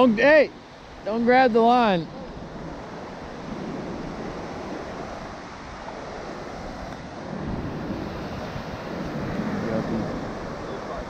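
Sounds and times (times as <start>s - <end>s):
ocean surf washing in: 0.0s - 11.0s
wind on microphone: 0.0s - 11.0s.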